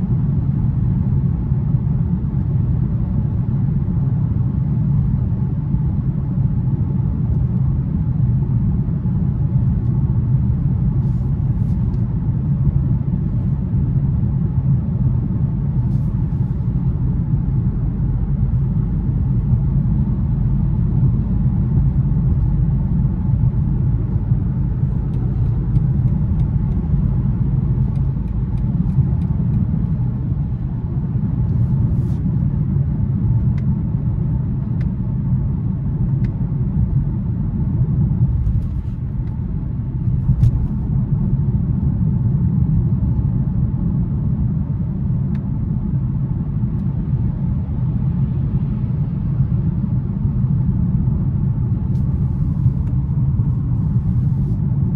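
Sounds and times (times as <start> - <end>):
car cabin road rumble: 0.0 - 54.9.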